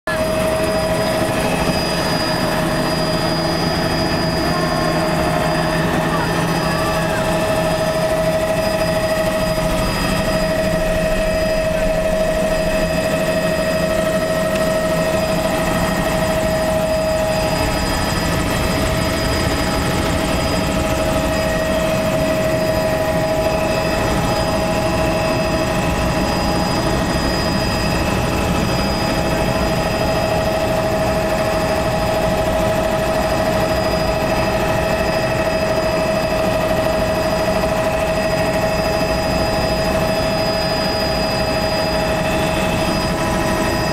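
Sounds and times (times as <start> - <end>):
helicopter engine and rotor drone: 0.0 - 43.9
constant whine: 0.1 - 43.9.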